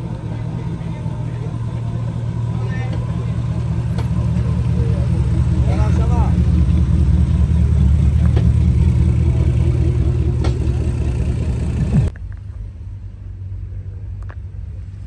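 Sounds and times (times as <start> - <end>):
car engine rumbling: 0.0 - 15.0
quiet low rumble: 0.0 - 15.0.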